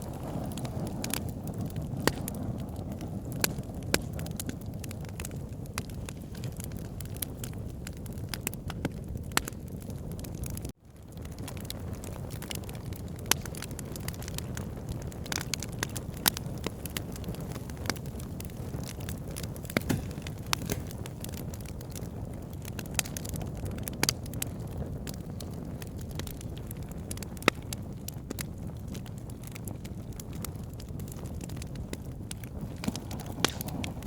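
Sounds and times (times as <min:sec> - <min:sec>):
burning wood popping: 0:00.0 - 0:34.0
campfire crackling: 0:00.0 - 0:34.0.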